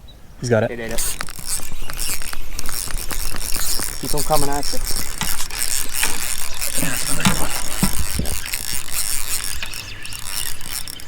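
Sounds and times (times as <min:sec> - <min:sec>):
fishing reel whirring: 0:00.6 - 0:11.0
fishing reel clicks: 0:00.7 - 0:11.0.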